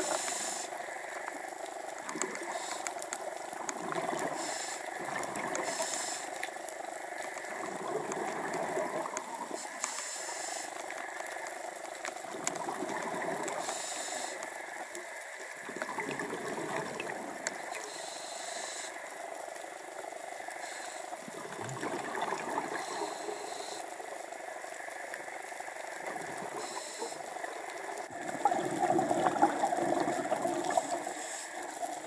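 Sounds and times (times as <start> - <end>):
scuba regulator bubbles: 0.0 - 11.5, 12.2 - 19.2, 20.2 - 32.0
faint underwater clicks: 0.0 - 32.0.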